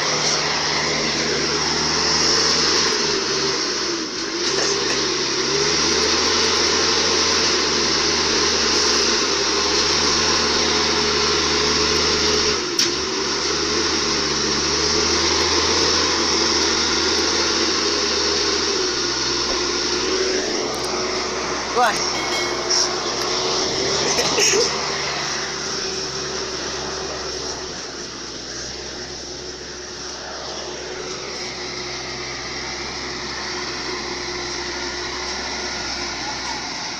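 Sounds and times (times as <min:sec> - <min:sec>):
truck engine running under load: 0:00.0 - 0:36.9.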